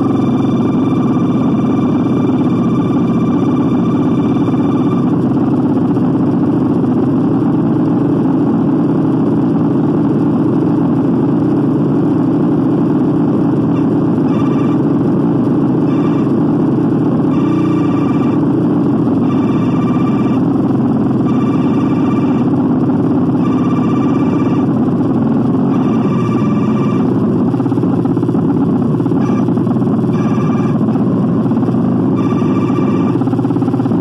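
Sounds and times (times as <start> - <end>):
loud distorted noise wall: 0.0 - 34.0.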